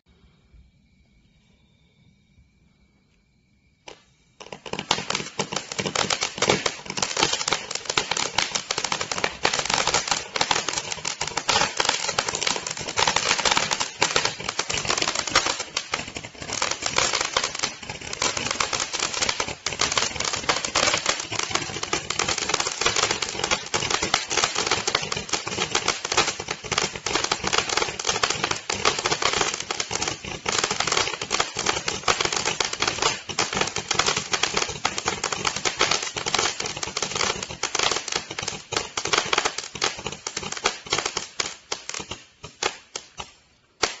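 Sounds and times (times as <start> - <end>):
fireworks rapid pops: 3.8 - 44.0.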